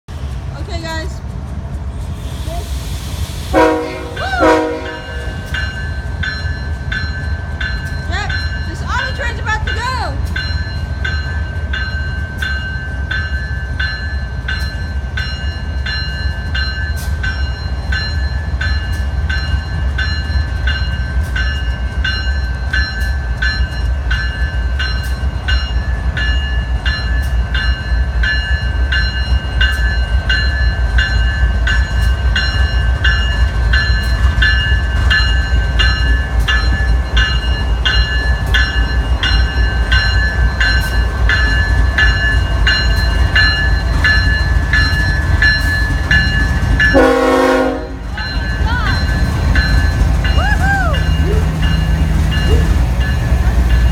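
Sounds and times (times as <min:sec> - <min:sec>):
diesel locomotive rumble: 0:00.1 - 0:53.9
locomotive bell ringing: 0:03.5 - 0:53.9.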